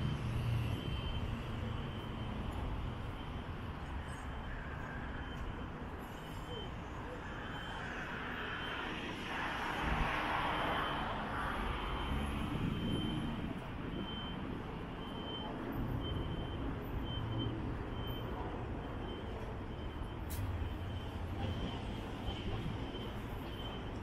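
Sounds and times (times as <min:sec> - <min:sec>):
large vehicle engine humming: 0:00.0 - 0:24.0.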